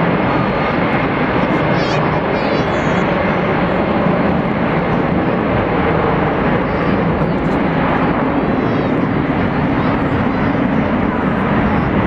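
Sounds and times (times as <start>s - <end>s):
jet aircraft engines running: 0.0s - 12.0s.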